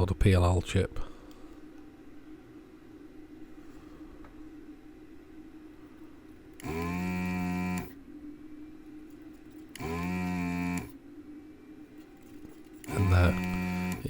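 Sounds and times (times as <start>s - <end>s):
vacuum pump humming: 0.0s - 11.7s, 12.7s - 14.0s.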